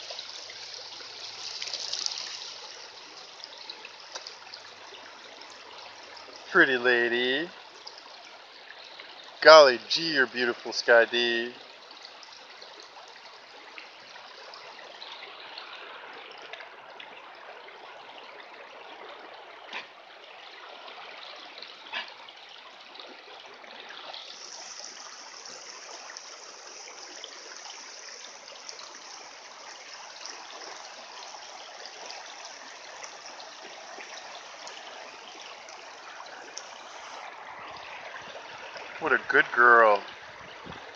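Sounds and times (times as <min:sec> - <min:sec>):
creek water running over gravel: 0:00.0 - 0:40.9.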